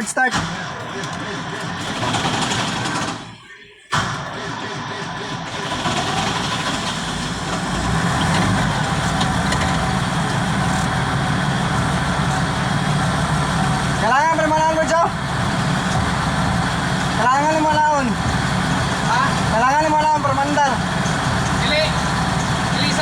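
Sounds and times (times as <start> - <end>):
diesel engine cranking and starting: 0.0 - 23.0.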